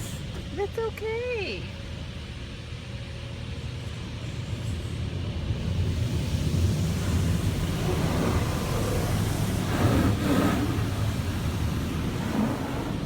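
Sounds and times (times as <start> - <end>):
car wash equipment rumbling: 0.0 - 13.0.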